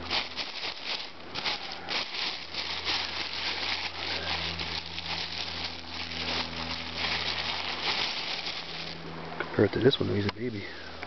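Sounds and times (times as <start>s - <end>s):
grass rustling and crackling: 0.0s - 11.0s
steady low hum: 0.0s - 11.0s.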